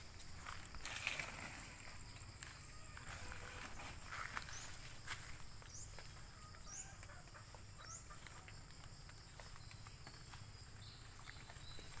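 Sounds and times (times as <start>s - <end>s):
bird chirping: 2.0s - 12.0s.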